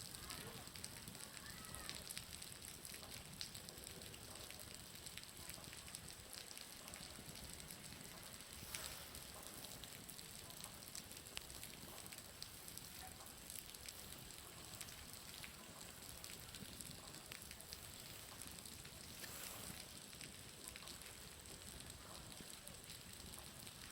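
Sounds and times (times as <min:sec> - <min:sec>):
bonfire burning: 0:00.0 - 0:23.9
water dripping from roof: 0:00.0 - 0:23.9.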